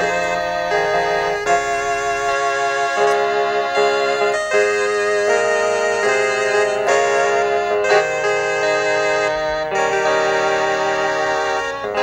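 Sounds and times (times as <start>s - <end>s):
electronic keyboard chords: 0.0s - 12.0s.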